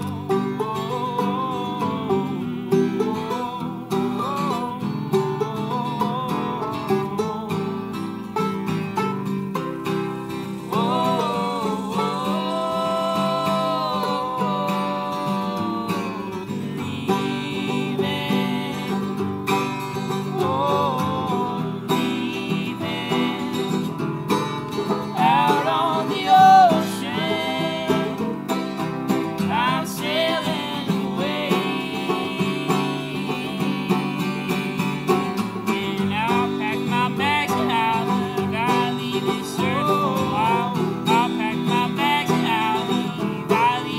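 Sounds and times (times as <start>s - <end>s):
wordless singing: 0.0s - 8.7s, 9.8s - 43.9s
banjo picking: 0.0s - 43.9s
strummed acoustic guitar: 0.0s - 43.9s.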